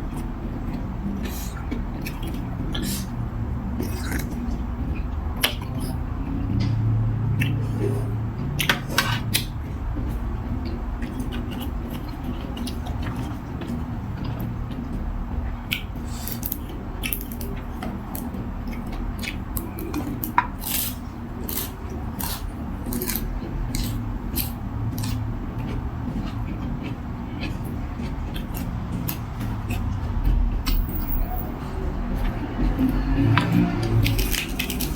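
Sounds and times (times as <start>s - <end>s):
eating noises: 0.0s - 34.9s.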